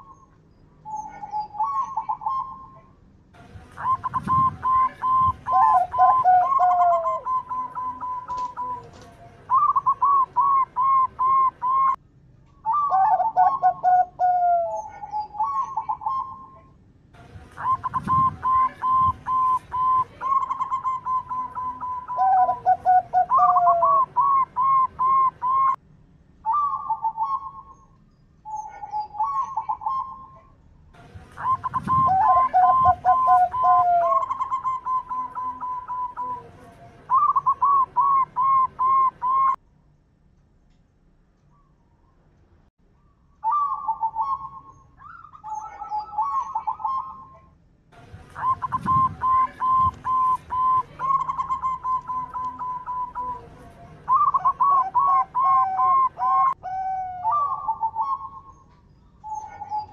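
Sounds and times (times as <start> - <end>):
doves cooing: 0.8 - 2.8, 3.8 - 12.0, 12.6 - 16.8, 17.6 - 25.8, 28.5 - 30.5, 31.2 - 39.6, 43.4 - 47.5, 48.2 - 59.9.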